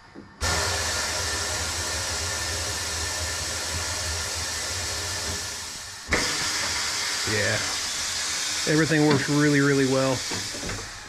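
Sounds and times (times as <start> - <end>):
compressed air hissing: 0.4 - 11.0.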